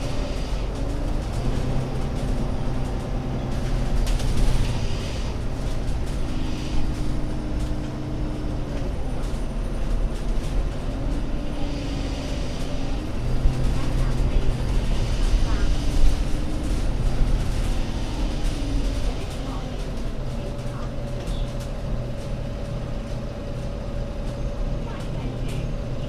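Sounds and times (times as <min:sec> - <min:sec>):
bus engine drone with whine: 0:00.0 - 0:26.0.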